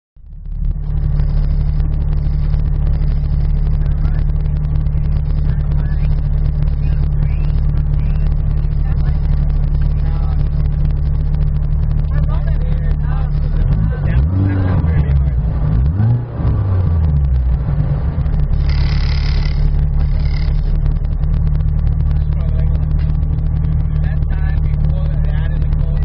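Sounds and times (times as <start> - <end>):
car engine idling: 0.2 - 26.0.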